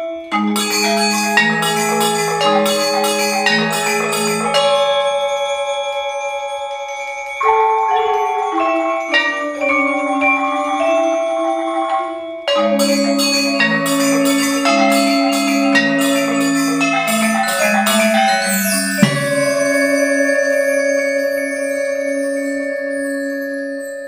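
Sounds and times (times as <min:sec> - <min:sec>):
gamelan-style percussion music: 0:00.0 - 0:24.0.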